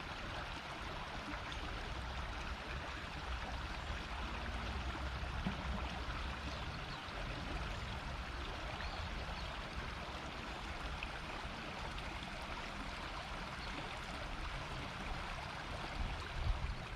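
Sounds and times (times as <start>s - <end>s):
river babbling over stones: 0.0s - 16.9s.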